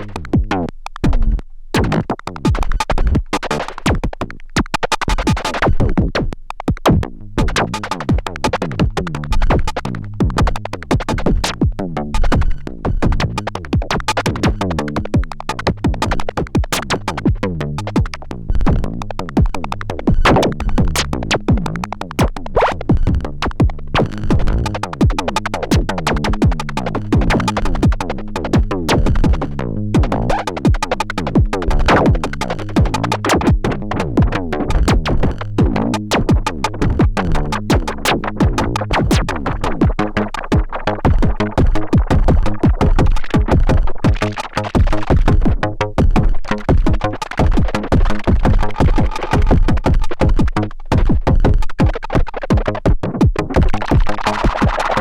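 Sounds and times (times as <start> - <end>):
electronic drum pattern: 0.0 - 1.2, 1.8 - 55.0.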